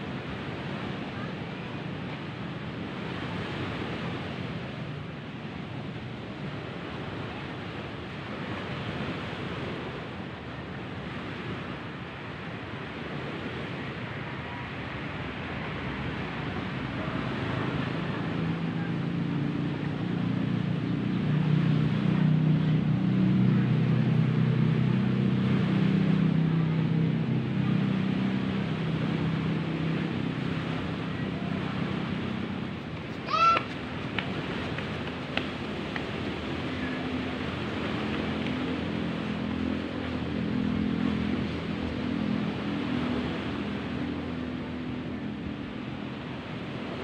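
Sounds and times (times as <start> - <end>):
low engine hum: 0.0 - 47.0
surf: 0.0 - 47.0.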